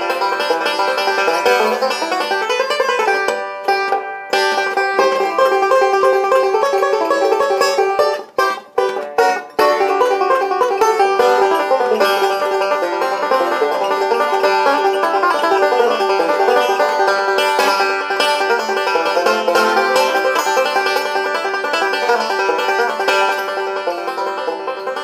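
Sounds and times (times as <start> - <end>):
banjo picking: 0.0 - 25.0.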